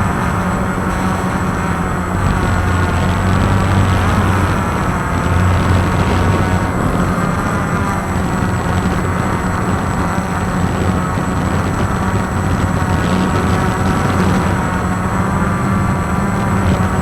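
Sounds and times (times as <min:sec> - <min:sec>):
quadcopter motors and propellers: 0:00.0 - 0:17.0.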